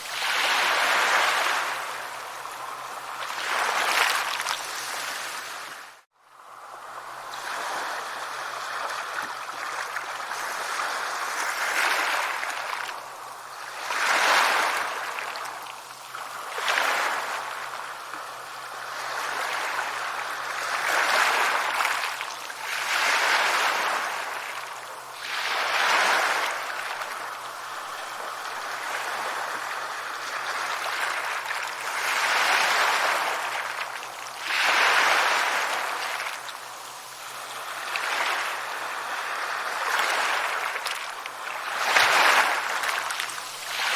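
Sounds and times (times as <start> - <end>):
sea waves breaking on shore: 0.0 - 43.9.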